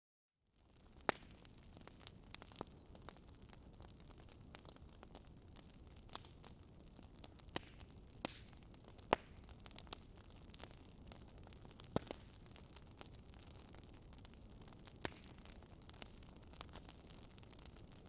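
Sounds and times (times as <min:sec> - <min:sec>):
fire crackling and popping: 0:00.6 - 0:18.0.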